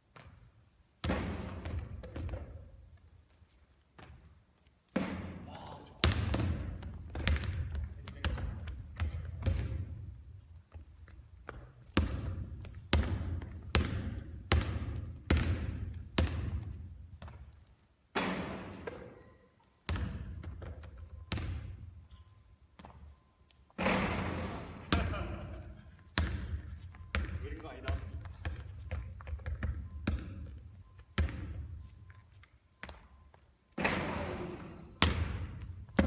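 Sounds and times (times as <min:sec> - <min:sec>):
basketball bouncing on a court: 0:00.1 - 0:03.0, 0:04.0 - 0:04.3, 0:04.9 - 0:22.1, 0:22.8 - 0:23.1, 0:23.8 - 0:31.9, 0:32.8 - 0:33.2, 0:33.8 - 0:36.0.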